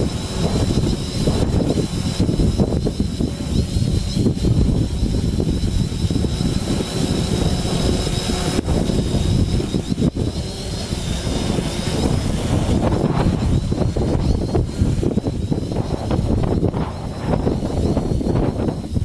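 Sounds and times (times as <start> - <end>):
drone motors whining: 0.0 - 19.0
wind buffeting microphone: 0.0 - 19.0.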